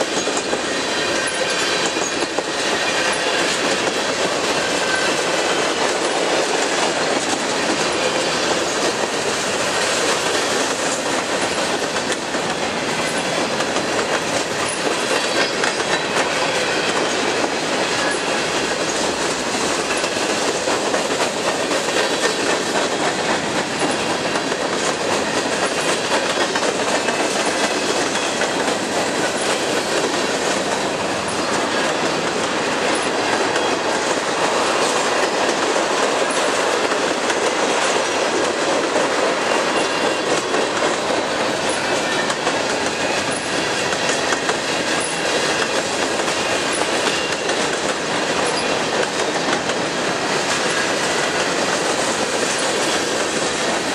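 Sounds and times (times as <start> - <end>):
freight train cars rumbling: 0.0 - 53.9
wheels clicking over rail joints: 0.0 - 53.9.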